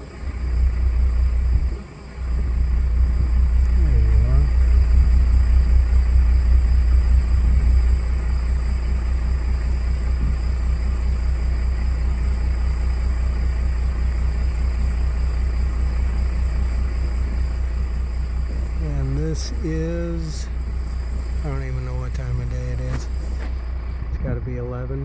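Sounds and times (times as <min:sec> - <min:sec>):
faint high whine: 0:00.0 - 0:25.0
steady low rumble: 0:00.0 - 0:25.0.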